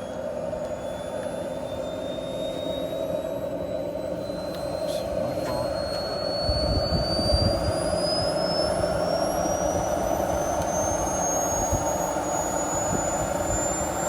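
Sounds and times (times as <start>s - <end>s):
turbine engine whine: 0.0s - 14.0s.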